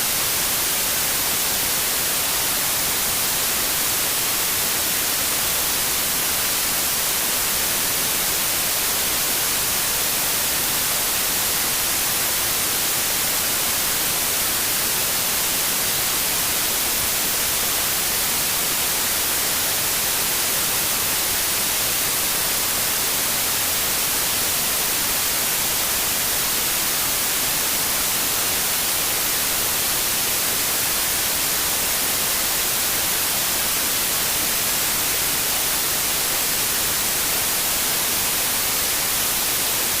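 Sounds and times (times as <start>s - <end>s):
steady white noise: 0.0s - 40.0s.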